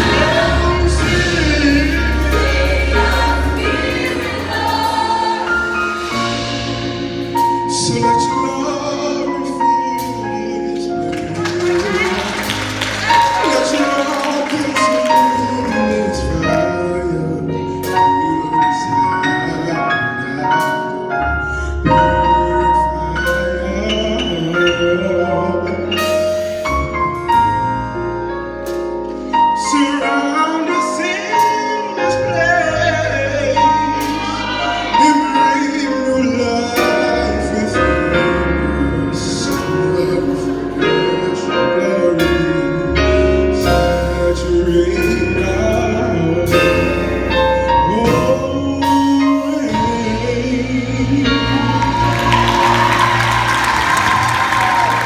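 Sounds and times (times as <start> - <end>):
gospel choir singing: 0.0 - 27.0, 29.6 - 55.0
low bass: 0.0 - 30.2, 32.1 - 55.0
band accompaniment: 0.0 - 55.0.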